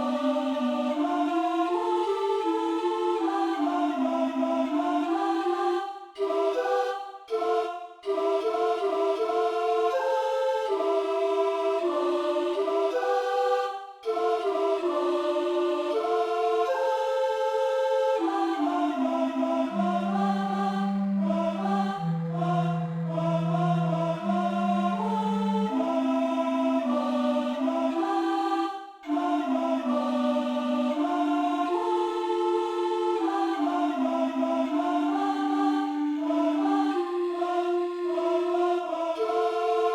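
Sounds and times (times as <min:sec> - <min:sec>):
choir-like wordless voices: 0:00.0 - 0:39.9.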